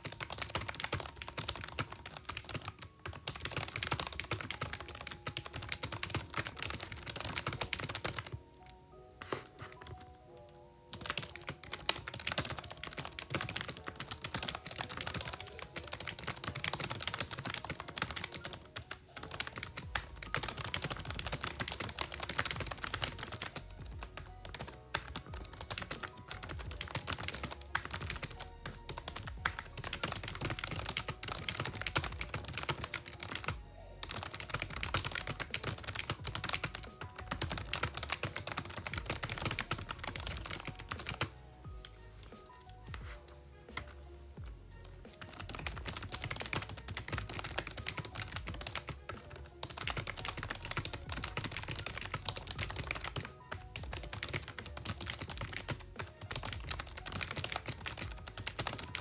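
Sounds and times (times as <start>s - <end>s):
typing on a keyboard: 0.0s - 44.0s, 44.8s - 59.0s.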